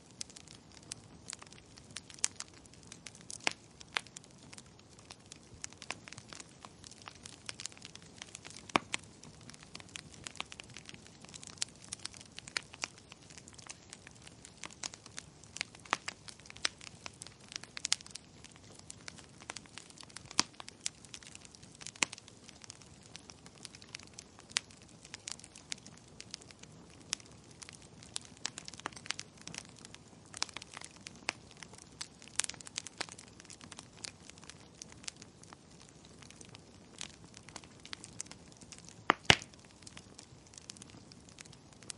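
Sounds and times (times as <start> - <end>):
firewood crackling and popping: 0.0 - 41.9.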